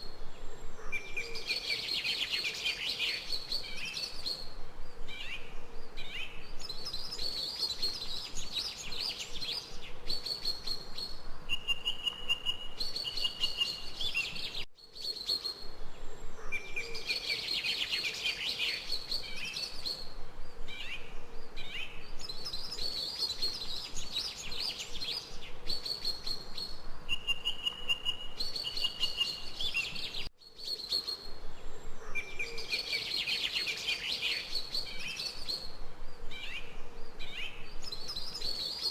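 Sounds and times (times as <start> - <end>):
faint steady hiss: 0.0 - 38.9
birds singing: 0.1 - 38.9.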